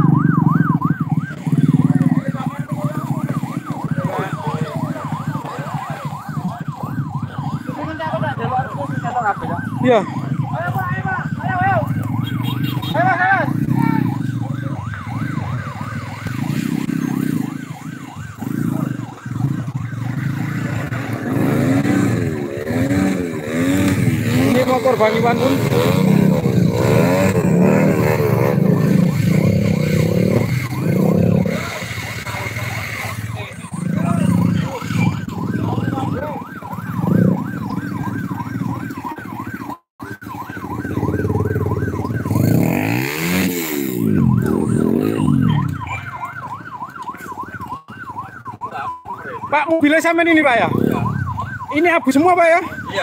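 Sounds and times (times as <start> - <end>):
electronic siren warbling: 0.0 - 53.0
vehicle engines running: 0.0 - 53.0.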